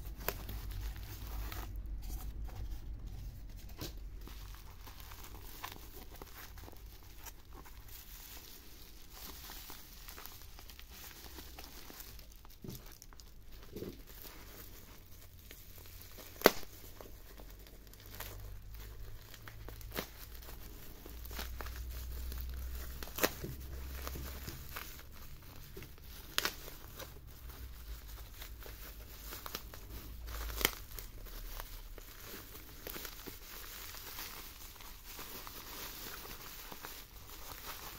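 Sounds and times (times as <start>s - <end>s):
bubble wrap crinkling: 0.0s - 37.9s
tape and wrap tearing: 0.0s - 37.9s.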